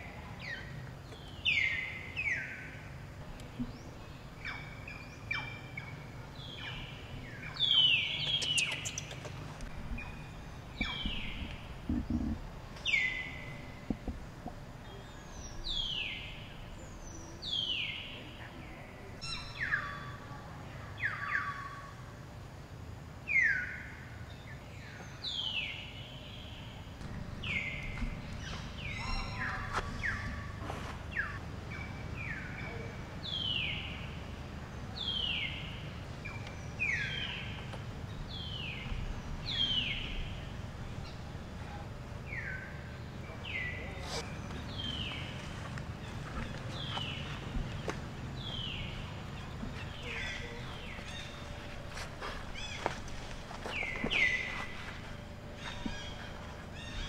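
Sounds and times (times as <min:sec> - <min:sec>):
low background rumble: 0:00.0 - 0:57.0.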